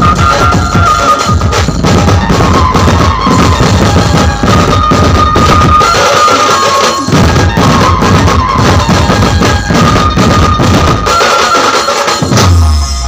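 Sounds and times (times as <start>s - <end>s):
dhol drums pounding: 0.0s - 13.0s
high melody line: 0.0s - 13.0s.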